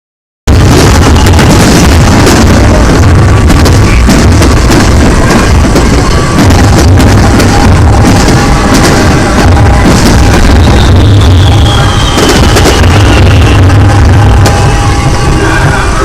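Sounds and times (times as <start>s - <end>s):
festival music: 0.5s - 16.0s
firework bursts: 0.5s - 16.0s
heavy low rumble: 0.5s - 16.0s.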